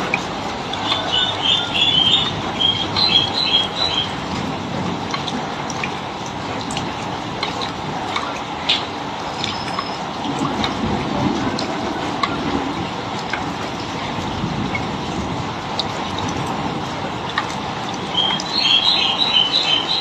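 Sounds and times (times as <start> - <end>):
water drips: 0.0 - 20.0.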